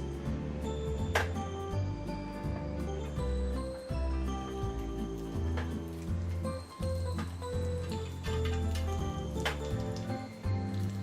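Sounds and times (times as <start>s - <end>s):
background music with bass: 0.0s - 11.0s.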